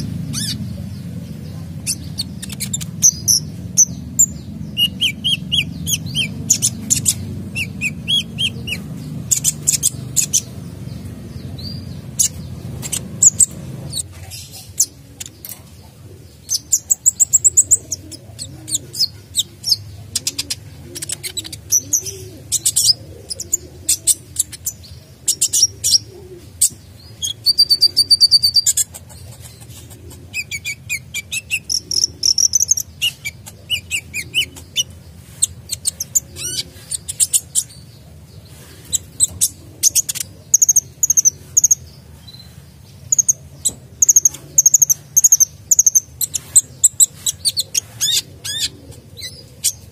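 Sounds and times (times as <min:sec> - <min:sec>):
bird chirping and trilling: 0:00.0 - 0:15.7, 0:16.3 - 0:38.1, 0:38.8 - 0:49.9
steady low hum: 0:00.0 - 0:49.9.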